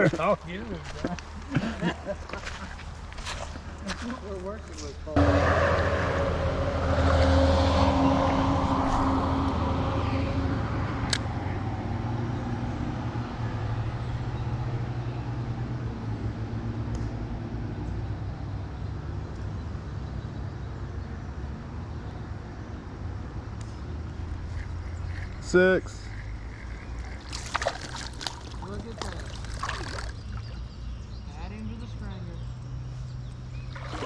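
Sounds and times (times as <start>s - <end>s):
vehicle engine hum: 2.2s - 34.0s.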